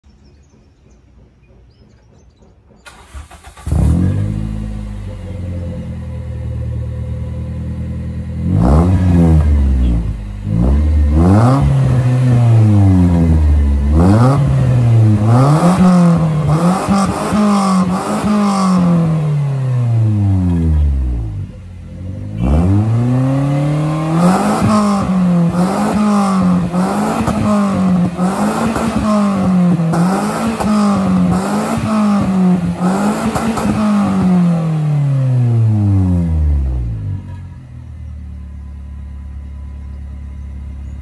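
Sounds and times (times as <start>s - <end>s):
exhaust crackles: 0.3s - 41.0s
car engine starting and revving: 2.8s - 41.0s.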